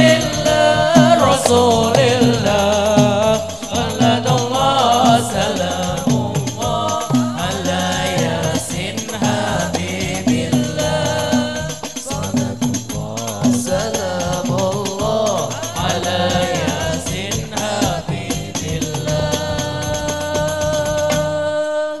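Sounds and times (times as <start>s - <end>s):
frame drums beating fast: 0.0s - 21.5s
male voices singing in unison: 0.0s - 22.0s.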